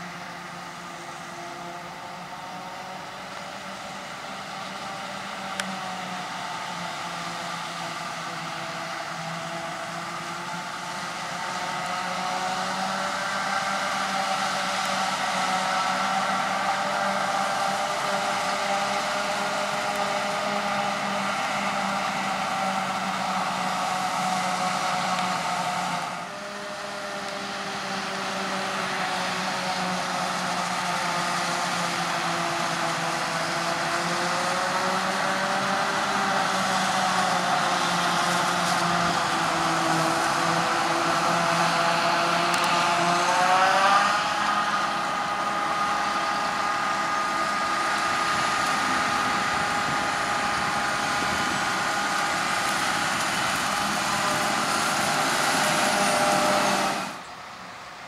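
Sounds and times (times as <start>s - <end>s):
forage harvester machine hum: 0.0s - 58.0s.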